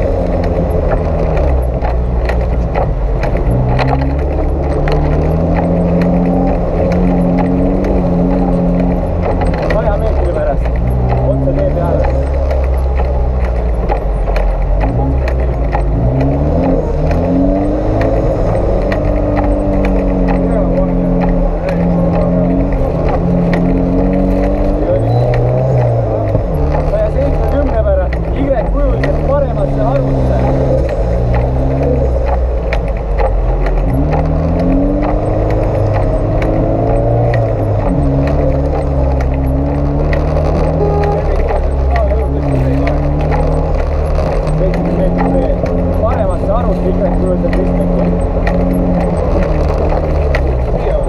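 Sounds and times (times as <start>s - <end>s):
engine revving: 0.0s - 51.0s
vehicle knocks and clatter: 0.0s - 51.0s.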